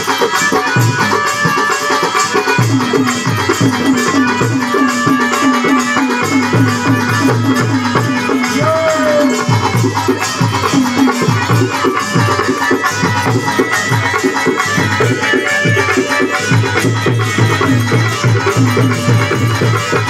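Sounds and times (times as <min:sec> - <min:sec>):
hand drum fast rhythm: 0:00.0 - 0:20.0
held melody line: 0:00.0 - 0:20.0.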